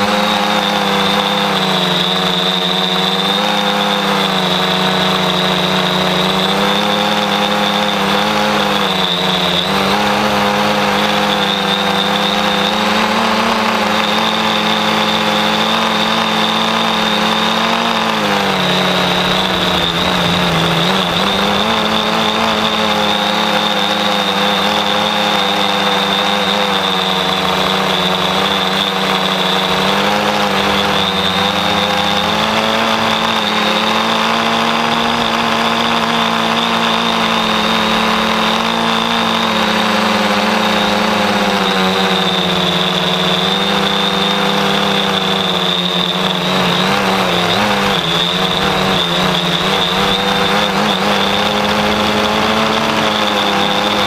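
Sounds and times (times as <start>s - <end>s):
drone motors buzzing hum: 0.0s - 54.0s.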